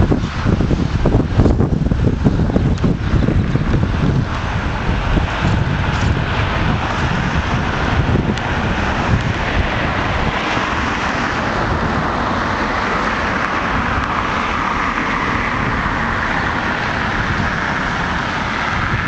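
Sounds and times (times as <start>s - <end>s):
road traffic rushing: 0.0s - 19.0s.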